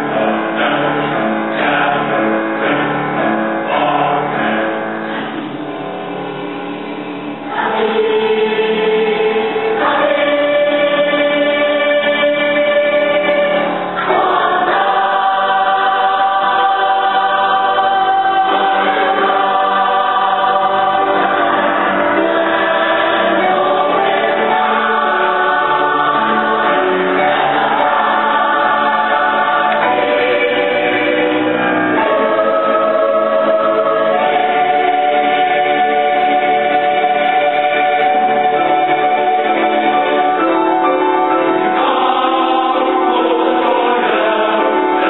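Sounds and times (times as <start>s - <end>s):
choir singing sustained chords: 0.0s - 45.0s.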